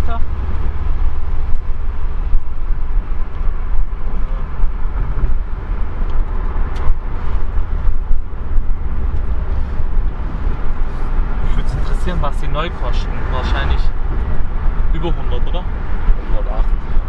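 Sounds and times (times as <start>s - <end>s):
car engine rumble inside cabin: 0.0s - 17.0s
road noise: 0.0s - 17.0s.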